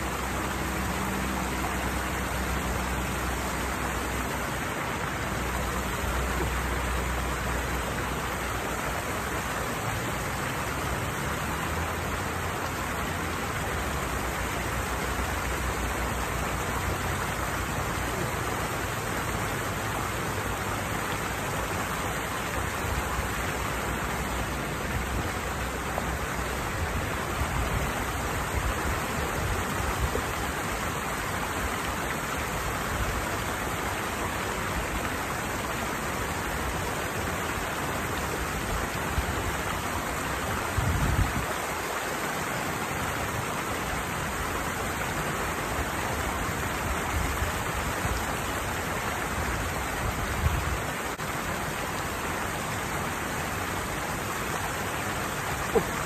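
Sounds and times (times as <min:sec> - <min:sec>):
water falling over a weir: 0:00.0 - 0:56.0.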